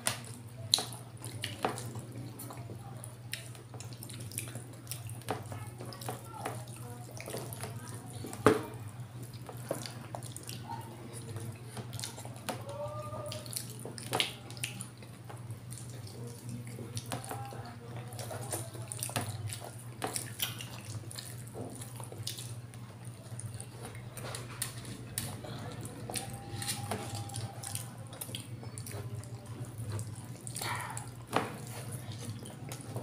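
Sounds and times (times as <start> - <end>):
wet chewing and lip-smacking: 0.0 - 33.0.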